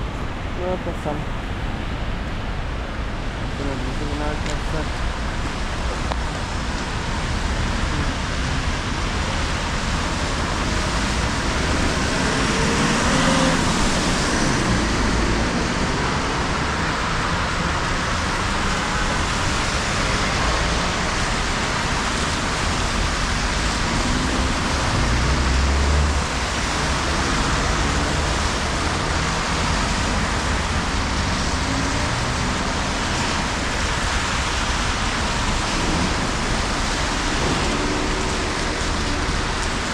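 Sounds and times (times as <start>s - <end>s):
traffic on wet streets: 0.0s - 39.9s
steady rain hiss: 0.1s - 39.9s.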